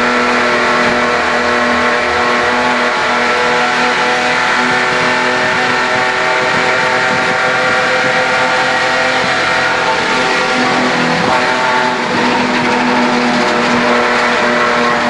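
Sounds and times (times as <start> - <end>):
race car engine running hard: 0.0 - 15.0
tyre and road noise: 0.0 - 15.0.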